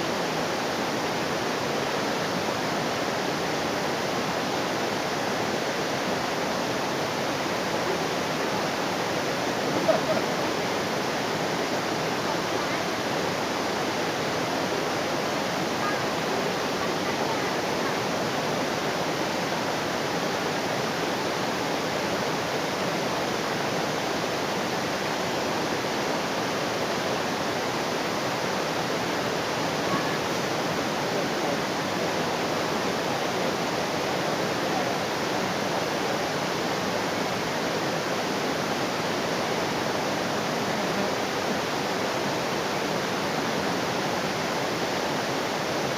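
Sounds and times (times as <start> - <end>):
waterfall roaring: 0.0 - 45.9.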